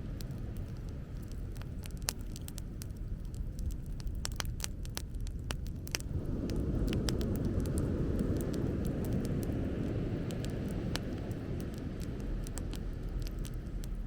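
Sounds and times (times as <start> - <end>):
bonfire crackling: 0.0 - 14.0
low fire rumble: 0.0 - 14.0.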